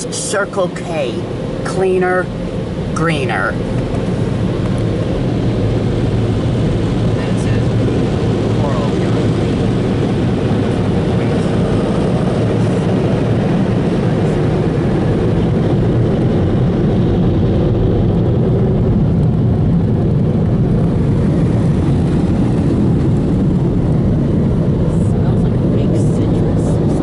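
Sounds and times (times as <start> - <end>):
car wash dryer blowing air: 0.0 - 27.0.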